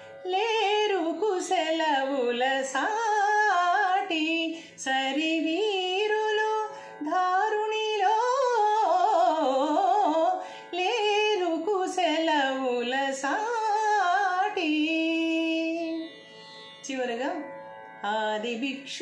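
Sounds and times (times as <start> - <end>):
woman singing: 0.2 - 16.2, 16.8 - 19.0.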